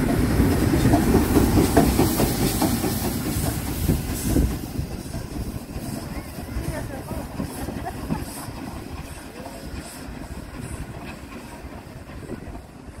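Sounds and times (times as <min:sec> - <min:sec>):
steam locomotive exhaust puffs: 0:00.0 - 0:13.0
train rumbling on rails: 0:00.0 - 0:13.0.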